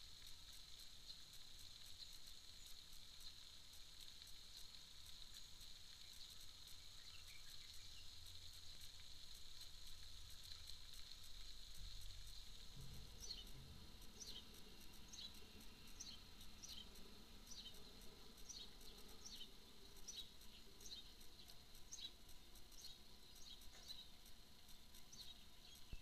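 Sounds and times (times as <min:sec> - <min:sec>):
high insect drone: 0:00.0 - 0:26.0.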